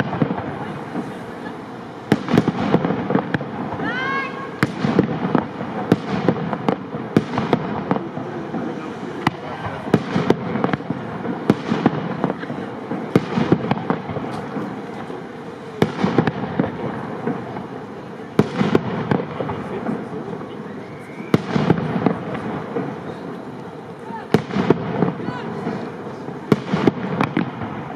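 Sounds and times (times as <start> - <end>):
fireworks bursting: 0.0 - 27.9.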